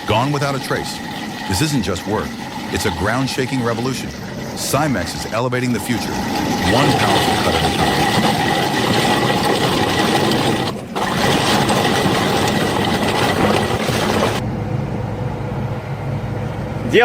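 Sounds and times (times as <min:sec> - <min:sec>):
rotary drum cutter grinding rock: 0:00.0 - 0:14.4.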